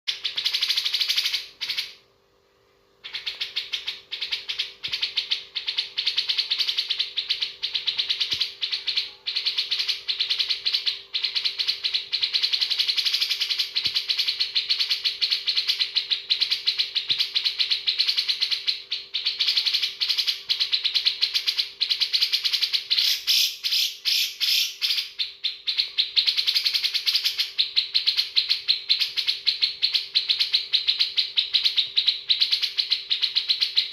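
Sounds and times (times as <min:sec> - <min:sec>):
bird singing rapid song: 0:00.1 - 0:02.0, 0:03.0 - 0:33.9.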